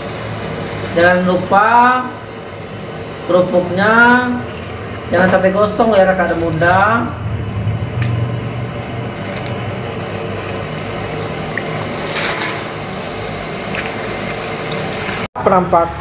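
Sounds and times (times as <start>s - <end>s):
crackers deep-frying in oil: 0.0s - 15.3s.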